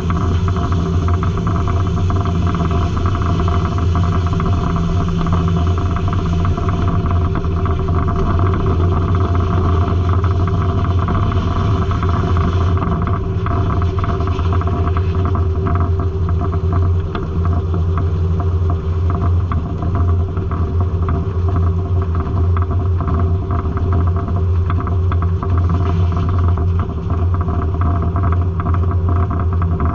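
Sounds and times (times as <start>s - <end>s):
circular sawmill running: 0.0s - 29.9s.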